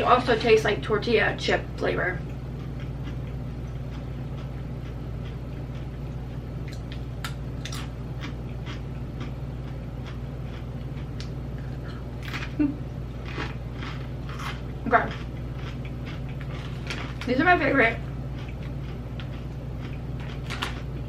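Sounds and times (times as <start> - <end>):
steady low hum: 0.0 - 21.0
potato chips being chewed: 2.2 - 17.4, 18.3 - 21.0.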